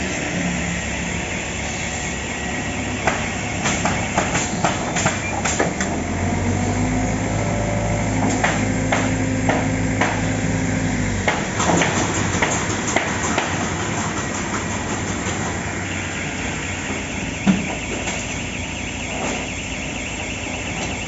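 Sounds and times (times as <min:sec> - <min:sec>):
machine rumble: 0:00.0 - 0:21.0.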